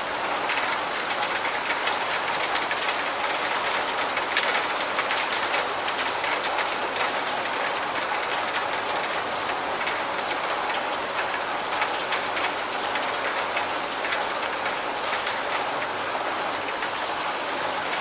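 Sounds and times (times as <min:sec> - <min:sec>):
heavy rain: 0:00.0 - 0:18.0
raindrops ticking on a hard surface: 0:00.0 - 0:18.0.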